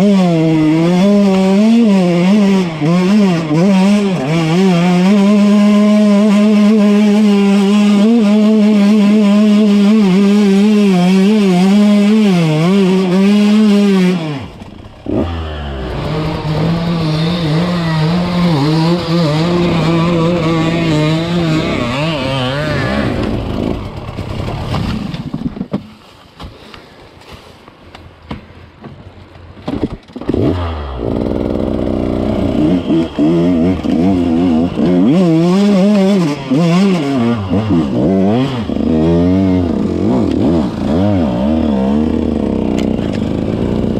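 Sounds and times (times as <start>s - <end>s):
dirt bike engine revving: 0.0s - 25.3s, 30.2s - 43.9s.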